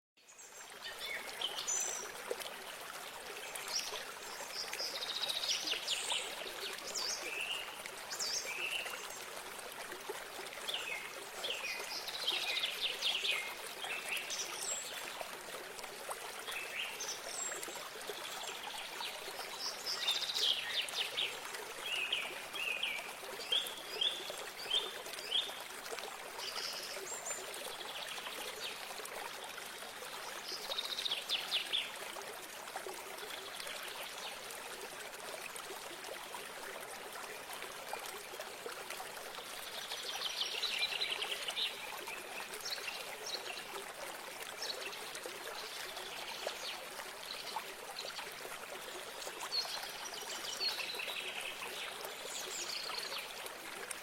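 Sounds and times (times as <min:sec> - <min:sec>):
water trickling: 0:00.3 - 0:54.0.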